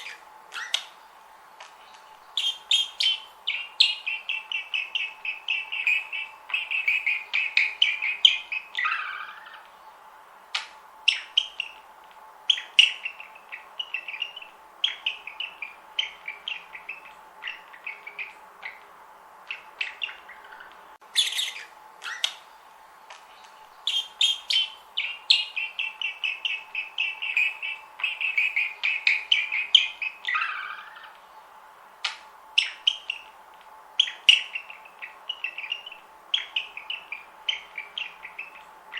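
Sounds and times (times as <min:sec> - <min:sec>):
budgerigars chirping and warbling: 0:00.0 - 0:01.0, 0:02.0 - 0:09.9, 0:10.6 - 0:11.9, 0:12.5 - 0:22.6, 0:23.8 - 0:31.3, 0:32.0 - 0:33.4, 0:34.0 - 0:38.9
faint steady hum: 0:00.0 - 0:38.9.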